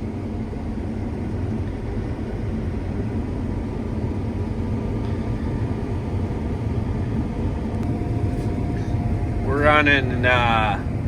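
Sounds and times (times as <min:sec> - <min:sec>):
combine harvester rumble: 0:00.0 - 0:11.0
faint constant hum: 0:00.0 - 0:11.0.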